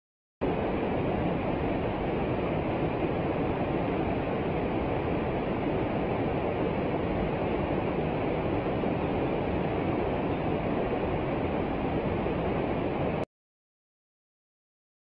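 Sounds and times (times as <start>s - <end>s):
stream rushing over boulders: 0.4s - 13.2s.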